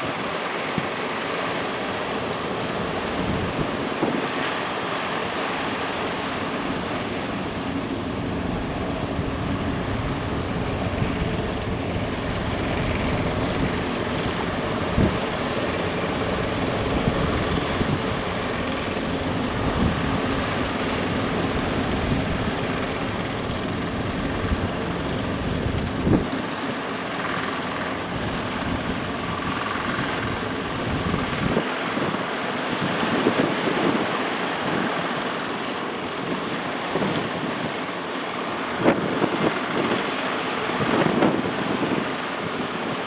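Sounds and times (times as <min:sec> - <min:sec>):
wind buffeting microphone: 0:00.0 - 0:26.9, 0:27.8 - 0:43.0
boat engine running: 0:00.0 - 0:43.0
breaking surf: 0:00.0 - 0:43.0.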